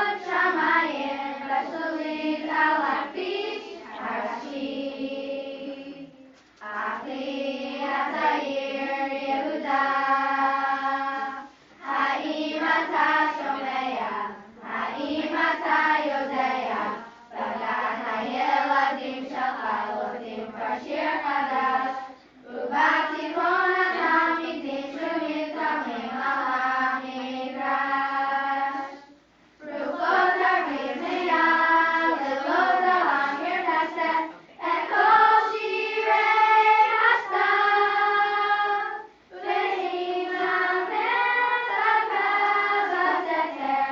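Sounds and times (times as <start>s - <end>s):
girls singing in unison: 0.0s - 43.9s.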